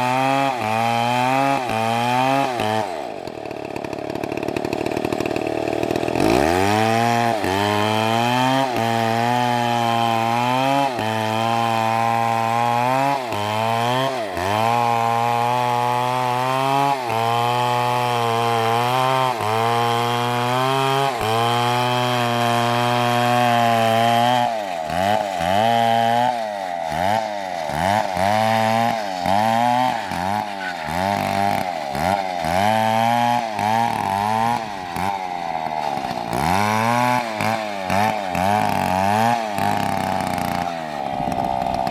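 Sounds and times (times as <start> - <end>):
chainsaw cutting tree trunk: 0.0 - 41.9.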